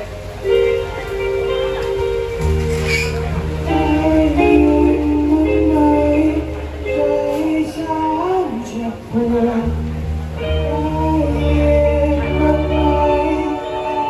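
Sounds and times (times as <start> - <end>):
band melody line: 0.0 - 14.0
low held bass notes: 0.0 - 14.0.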